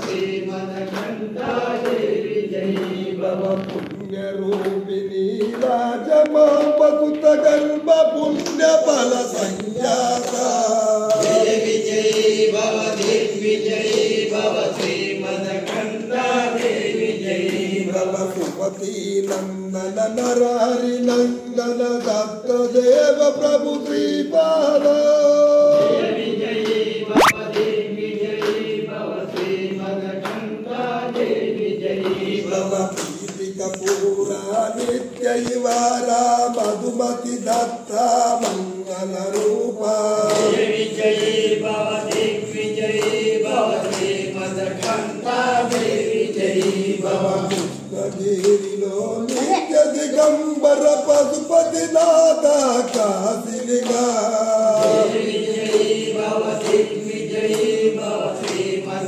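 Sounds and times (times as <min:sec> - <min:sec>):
hand claps: 0:00.0 - 0:59.0
men singing a devotional chant: 0:00.0 - 0:59.0.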